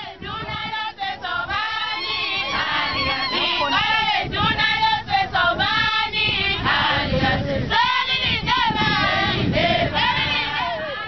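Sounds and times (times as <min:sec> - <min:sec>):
women singing in chorus: 0:00.0 - 0:11.0.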